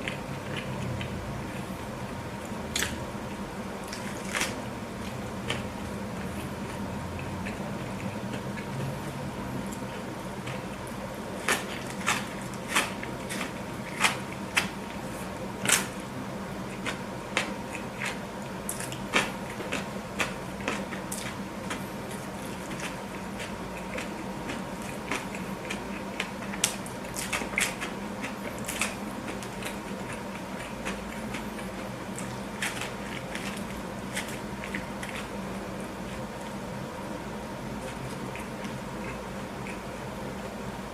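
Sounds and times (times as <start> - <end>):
low background hum: 0.0 - 40.9.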